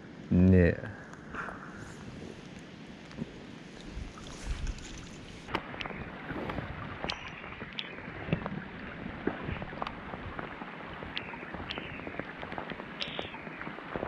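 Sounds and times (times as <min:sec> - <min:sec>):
rain falling on water: 0:02.4 - 0:14.0.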